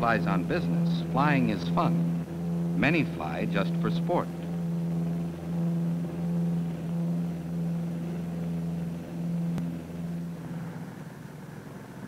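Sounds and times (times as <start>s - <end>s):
twin piston aircraft engines droning: 0.0s - 12.0s.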